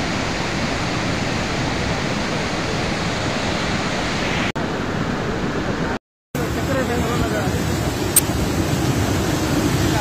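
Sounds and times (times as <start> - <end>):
flood water rushing: 0.0 - 10.0.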